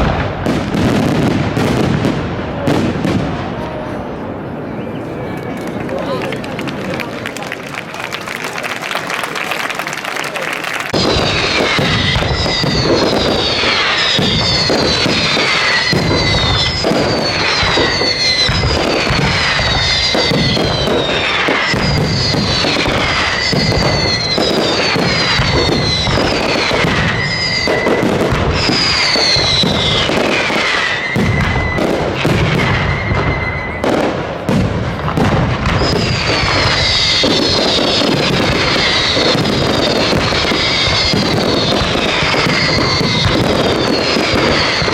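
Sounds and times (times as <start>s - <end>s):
fireworks bangs and crackles: 0.0s - 44.9s
whistling fireworks shells: 7.2s - 44.9s.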